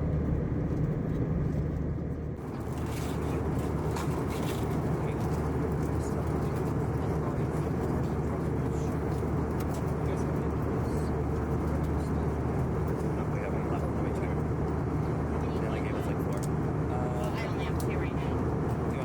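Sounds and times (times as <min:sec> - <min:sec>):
jet engine cabin drone: 0:00.0 - 0:19.0.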